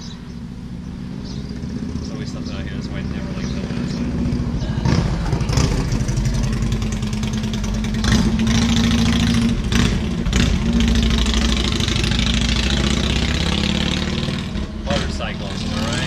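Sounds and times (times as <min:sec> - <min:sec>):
motor engine running: 0:01.1 - 0:16.0.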